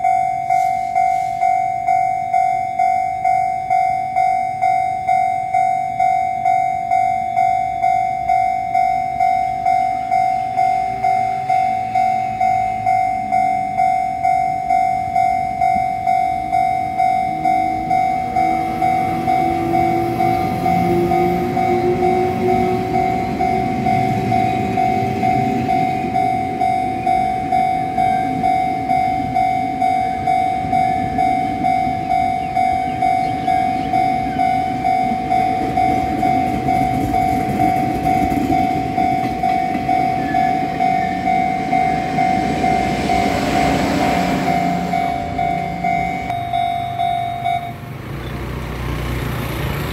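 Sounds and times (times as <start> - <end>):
level crossing bell ringing: 0.0 - 47.9
diesel locomotive engine: 0.0 - 49.9
passenger train passing: 0.0 - 49.9
rushing noise of train car: 0.0 - 49.9.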